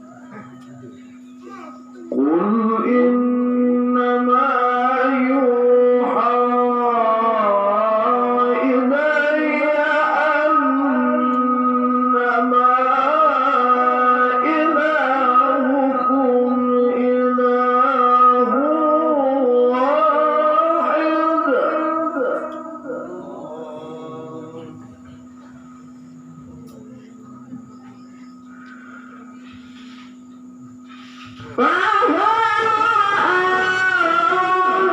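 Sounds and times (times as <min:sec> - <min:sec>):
man chanting melodically: 0:00.0 - 0:27.8, 0:30.4 - 0:34.9
steady low hum: 0:00.0 - 0:34.9.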